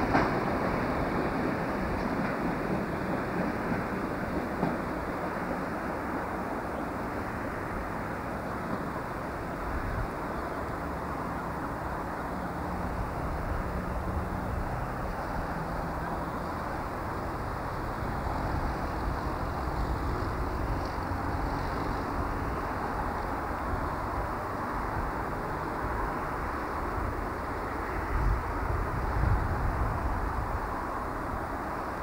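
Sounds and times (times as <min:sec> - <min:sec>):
diesel train engine rumble: 0:00.0 - 0:32.0.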